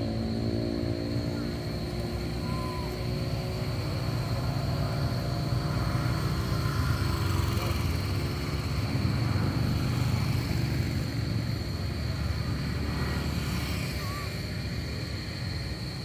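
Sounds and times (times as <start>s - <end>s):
high-pitched whine: 0.0s - 16.0s
low outdoor rumble: 0.0s - 16.0s.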